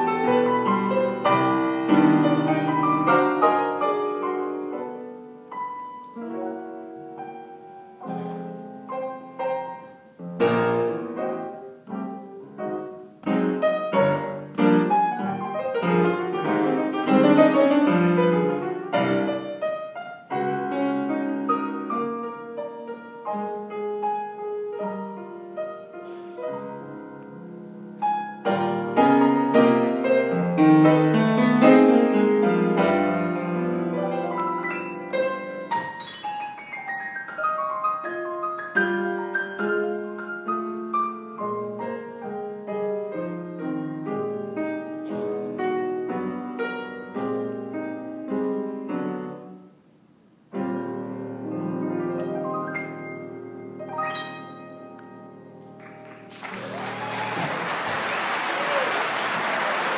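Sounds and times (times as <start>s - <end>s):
piano playing: 0.0s - 59.9s.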